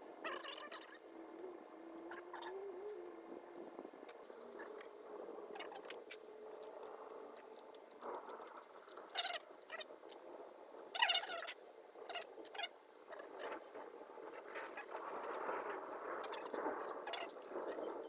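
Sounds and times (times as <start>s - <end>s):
thin wavering hum: 0.0s - 18.0s.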